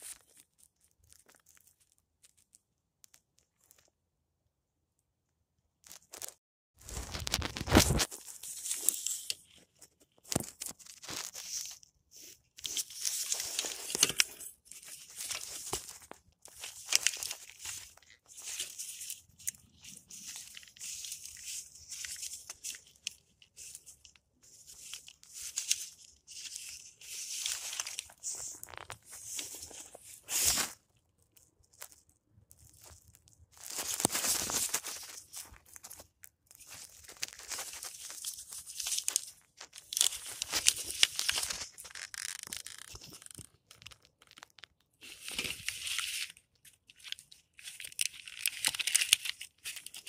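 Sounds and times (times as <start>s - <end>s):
tape and plastic crinkling: 0.0s - 3.9s, 5.8s - 50.0s.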